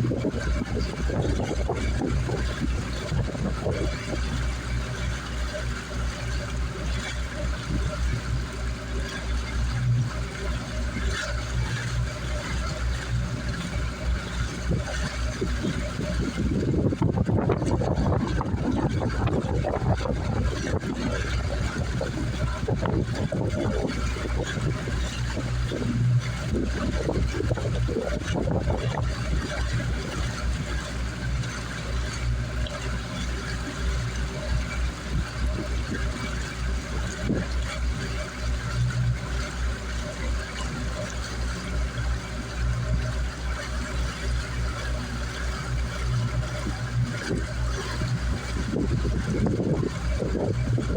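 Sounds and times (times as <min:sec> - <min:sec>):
hiss of water and wind: 0:00.0 - 0:50.9
motorboat engine running: 0:00.0 - 0:50.9
uneven rumbling: 0:00.0 - 0:50.9.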